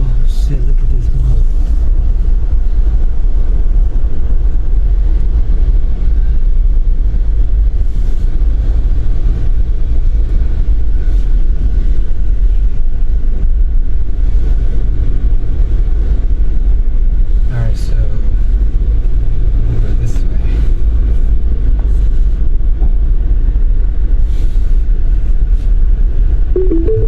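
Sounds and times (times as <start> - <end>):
truck cabin road and engine rumble: 0.0 - 26.5.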